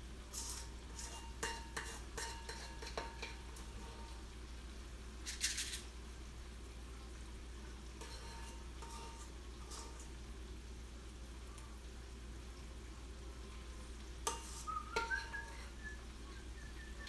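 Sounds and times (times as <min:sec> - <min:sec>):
chicken sizzling in a skillet: 0:00.0 - 0:17.0.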